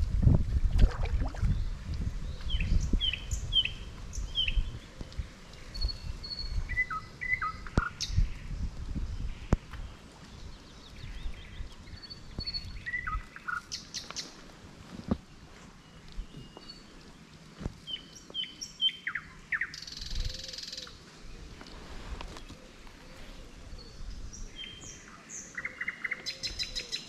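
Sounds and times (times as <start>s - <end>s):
songbirds singing: 0.9s - 27.0s.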